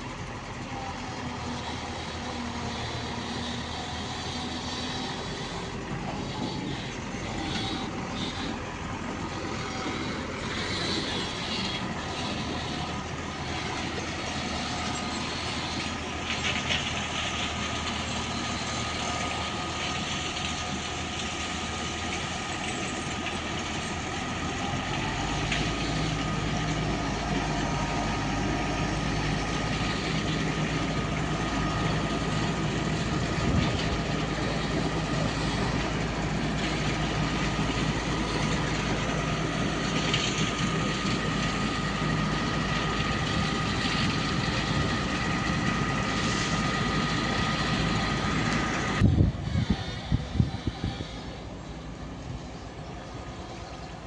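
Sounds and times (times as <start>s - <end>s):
heavy vehicle engine running: 0.0s - 54.0s
low hum and pitched drone: 0.0s - 54.0s.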